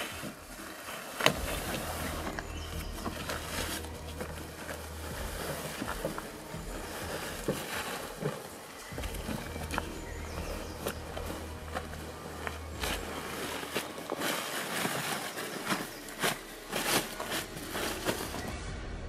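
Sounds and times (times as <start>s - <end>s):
plastic tarp rustling: 0.0s - 18.6s
low steady hum: 0.2s - 19.0s.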